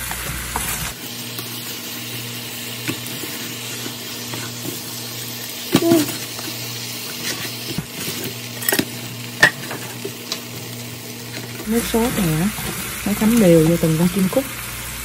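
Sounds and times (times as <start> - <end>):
quail sizzling in a frying pan: 0.0 - 15.0.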